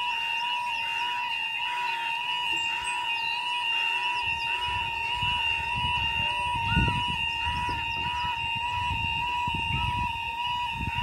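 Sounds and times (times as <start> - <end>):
birds chirping faintly: 0.0 - 9.8
level crossing alarm: 0.0 - 11.0.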